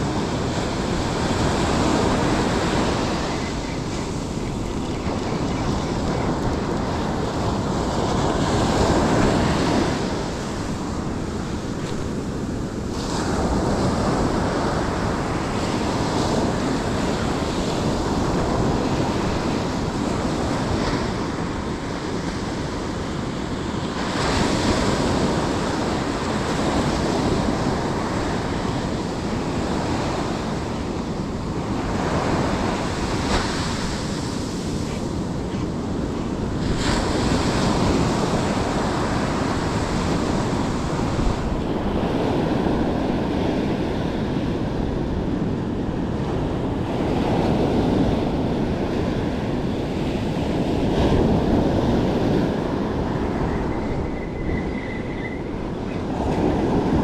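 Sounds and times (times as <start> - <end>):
surf washing up a beach: 0.0 - 57.0.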